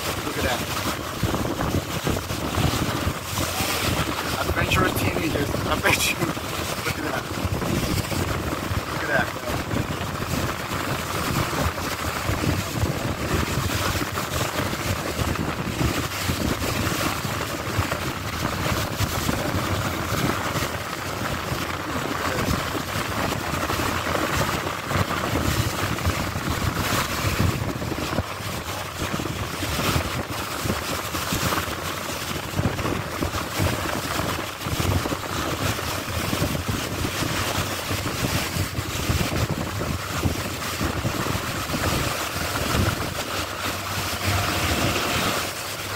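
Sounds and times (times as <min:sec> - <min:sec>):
boat engine rumble: 0:00.0 - 0:45.9
water washing past hull: 0:00.0 - 0:45.9
wind buffeting microphone: 0:00.0 - 0:45.9.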